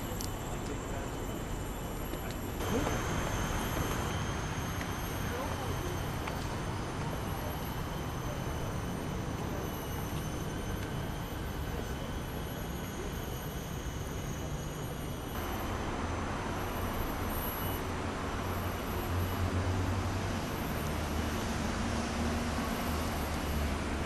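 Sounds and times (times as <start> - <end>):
distant road traffic rumble: 0.0 - 24.0
faint high-pitched tones: 0.0 - 24.0.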